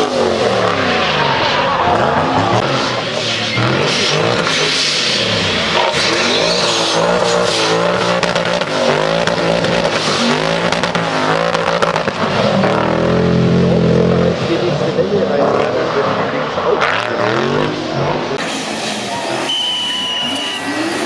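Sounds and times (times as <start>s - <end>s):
car engine revving hard: 0.0s - 19.6s.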